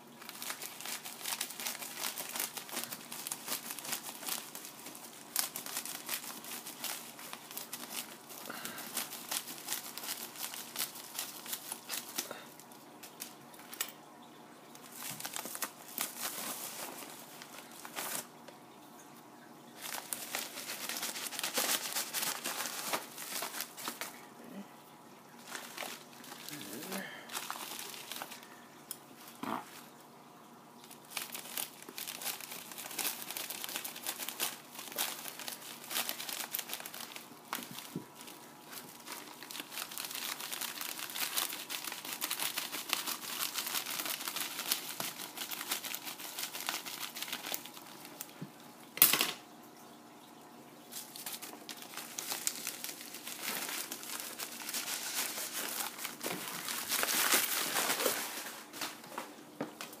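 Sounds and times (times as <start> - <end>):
plastic and paper crinkling: 0.0 - 13.9, 14.7 - 19.0, 19.8 - 24.2, 25.3 - 30.1, 30.8 - 49.3, 50.9 - 60.0.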